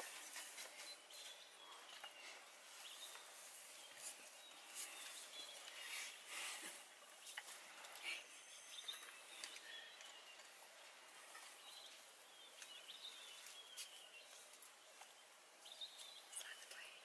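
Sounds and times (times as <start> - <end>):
soft clicks and rustles: 0.0 - 17.0
bird chirps: 0.6 - 6.3, 8.1 - 17.0.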